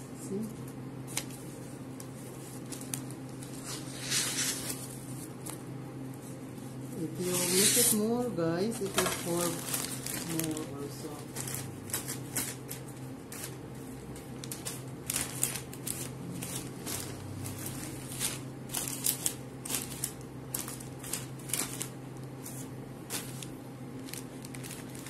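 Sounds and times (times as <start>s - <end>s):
wrapping paper rustling: 0.3s - 25.0s.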